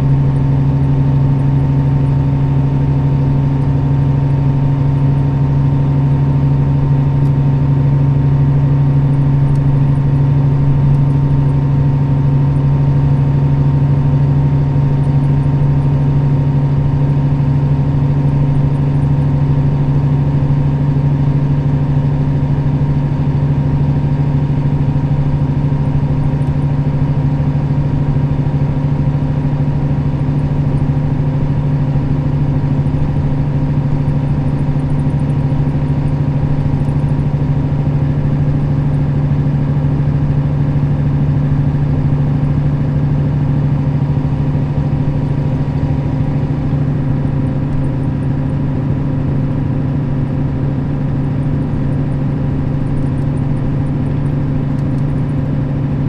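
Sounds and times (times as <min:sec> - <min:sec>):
bus diesel engine running: 0:00.0 - 0:56.0
faint engine whine: 0:00.0 - 0:56.0.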